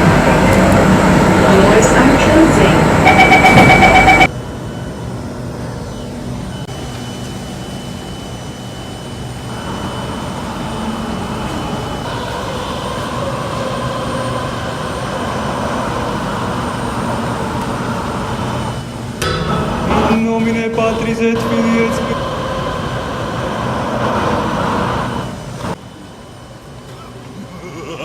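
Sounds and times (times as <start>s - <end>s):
mechanical rumble with hissing roar: 0.0s - 28.0s.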